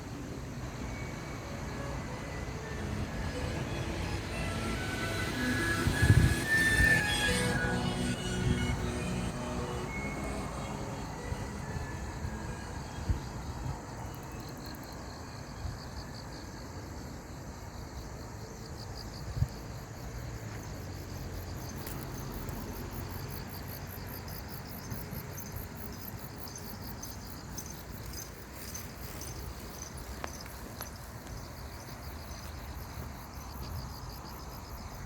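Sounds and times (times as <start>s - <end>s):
insects chirping: 0.0s - 35.0s.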